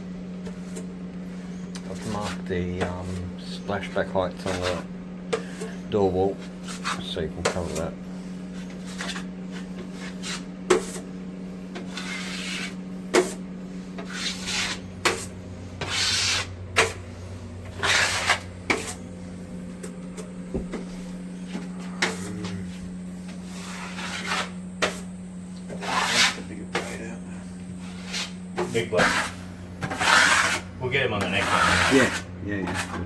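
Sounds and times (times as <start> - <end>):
steady low hum: 0.0 - 33.0
tools scraping plasterboard: 1.8 - 11.1, 11.7 - 19.0, 20.2 - 33.0.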